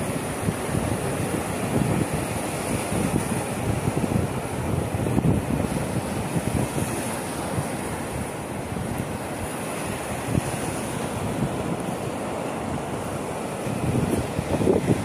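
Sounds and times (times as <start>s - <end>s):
waves washing on sandy shore: 0.0s - 15.0s
wind buffeting microphone: 0.0s - 15.0s.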